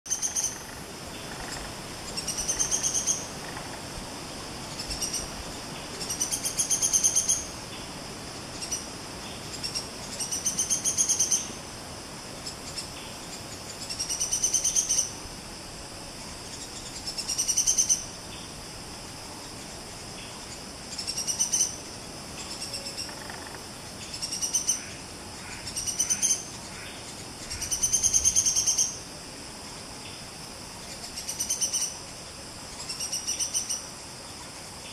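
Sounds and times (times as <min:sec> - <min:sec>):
insect hiss: 0:00.1 - 0:34.9.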